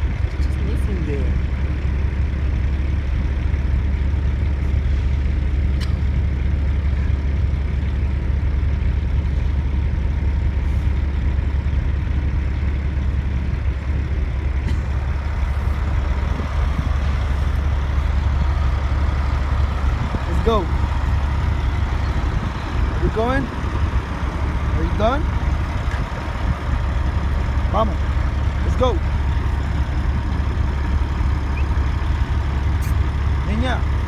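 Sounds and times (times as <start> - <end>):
diesel trucks idling: 0.0 - 34.0.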